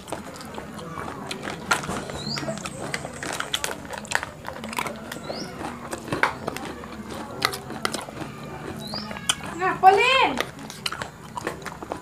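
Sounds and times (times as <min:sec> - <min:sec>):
chewing and crunching: 0:00.0 - 0:12.0.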